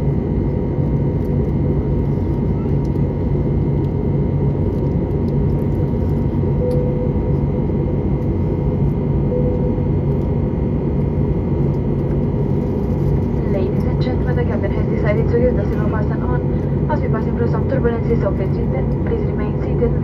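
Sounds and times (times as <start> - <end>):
aircraft engine and airflow rumble: 0.0 - 20.0
faint steady whine: 0.0 - 20.0.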